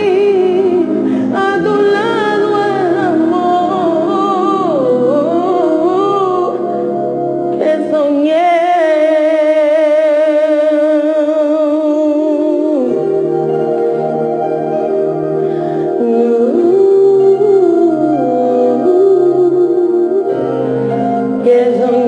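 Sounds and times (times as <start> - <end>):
woman singing: 0.0 - 15.1, 15.8 - 22.0.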